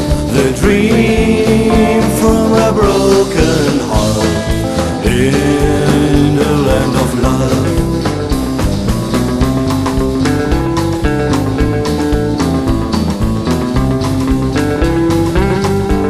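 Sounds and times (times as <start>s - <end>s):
rockabilly band music: 0.0s - 16.0s.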